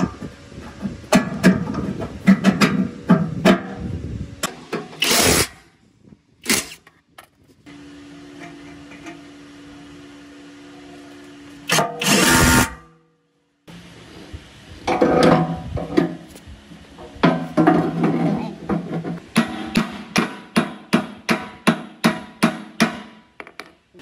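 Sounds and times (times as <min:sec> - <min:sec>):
steady hum: 0:00.0 - 0:23.4.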